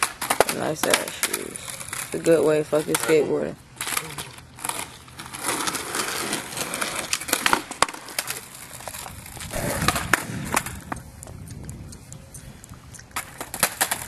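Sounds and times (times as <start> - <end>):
skateboard clacking on pavement: 0.0 - 12.2, 13.0 - 14.0
skateboard wheels rolling on asphalt: 0.0 - 14.0.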